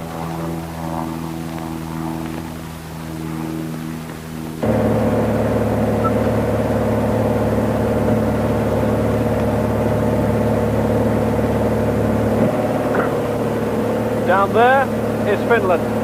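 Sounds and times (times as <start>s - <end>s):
light aircraft engine running: 0.0s - 16.0s.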